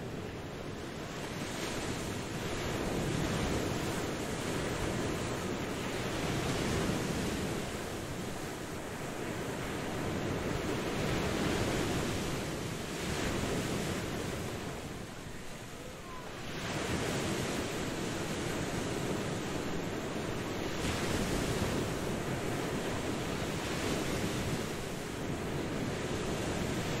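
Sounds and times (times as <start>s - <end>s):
sea waves washing onto beach: 0.0s - 27.0s.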